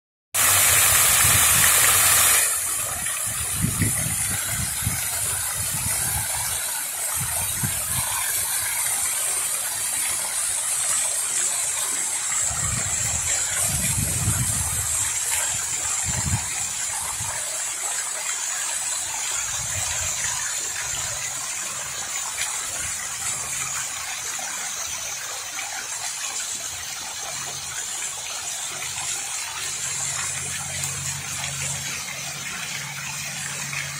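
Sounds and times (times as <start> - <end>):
fountain water splashing: 0.4 - 33.9.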